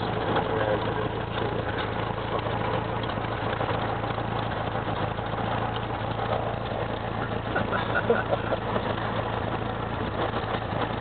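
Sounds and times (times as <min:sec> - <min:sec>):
propeller plane engine hum: 0:00.0 - 0:11.0.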